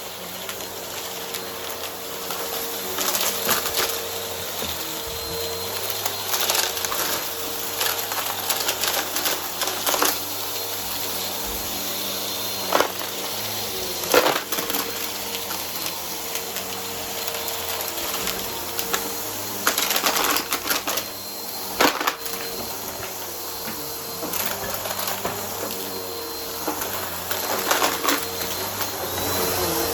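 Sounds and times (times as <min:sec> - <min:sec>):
vacuum cleaner motor whine: 0:00.0 - 0:29.9
debris cracking in vacuum: 0:00.1 - 0:26.0, 0:26.6 - 0:29.9.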